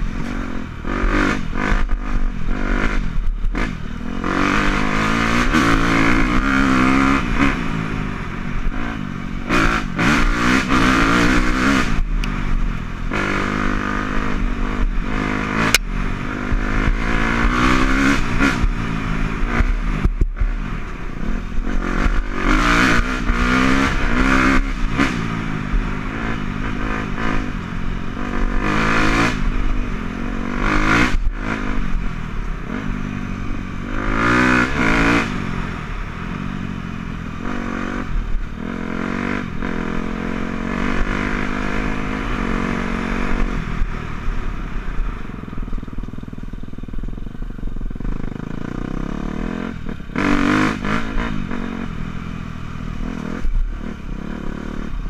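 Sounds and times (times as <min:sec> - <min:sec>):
dirt bike engine revving: 0:00.0 - 0:45.8, 0:46.7 - 0:55.0.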